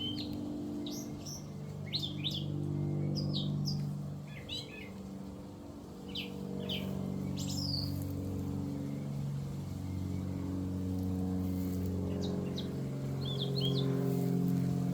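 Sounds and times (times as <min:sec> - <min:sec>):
songbird singing: 0:00.0 - 0:05.2, 0:06.1 - 0:10.8, 0:11.4 - 0:14.3
steady low hum: 0:00.0 - 0:14.9.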